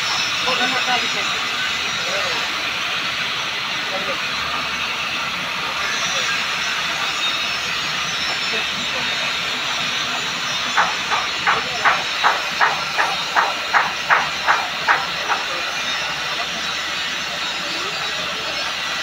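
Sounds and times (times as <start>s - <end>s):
cutting torch hissing: 0.0s - 19.0s.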